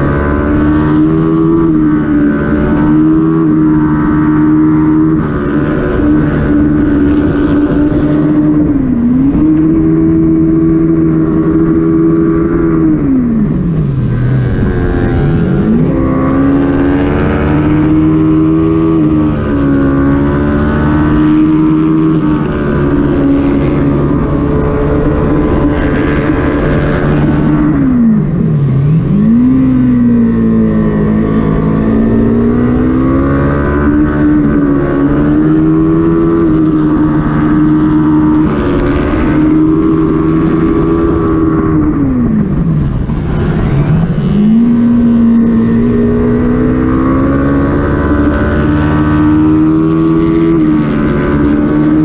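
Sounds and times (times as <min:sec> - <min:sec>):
motorcycle engine at high revs: 0:00.0 - 0:52.0.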